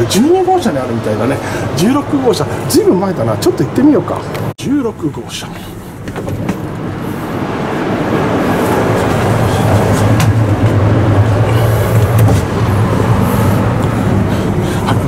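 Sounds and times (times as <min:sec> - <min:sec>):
strong low hum: 0:00.0 - 0:15.0
train running rumble: 0:00.0 - 0:15.0.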